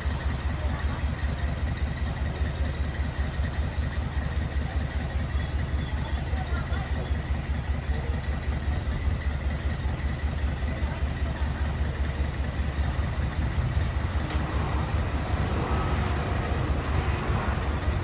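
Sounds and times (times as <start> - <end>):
heavy machine engine rumbling: 0.0 - 18.0.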